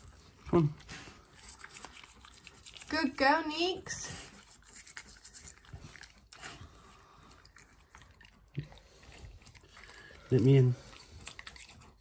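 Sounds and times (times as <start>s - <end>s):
dog licking and chewing: 0.0s - 12.0s
toothbrush scrubbing teeth: 0.0s - 12.0s.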